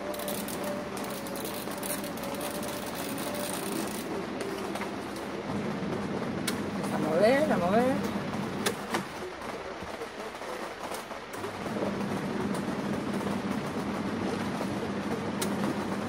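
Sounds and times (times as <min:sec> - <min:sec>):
washing machine motor humming: 0:00.0 - 0:09.4, 0:11.3 - 0:16.0.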